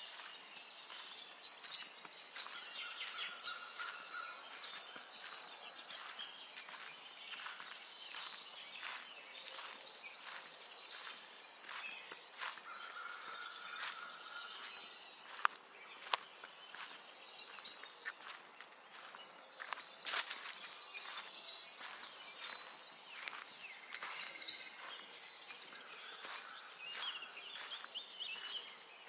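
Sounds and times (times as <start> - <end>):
songbirds chirping and twittering: 0.0 - 29.0.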